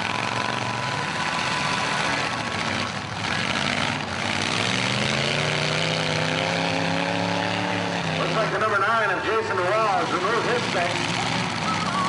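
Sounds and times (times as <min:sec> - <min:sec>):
car engines running hard: 0:00.0 - 0:12.0
engine revving: 0:00.0 - 0:12.0.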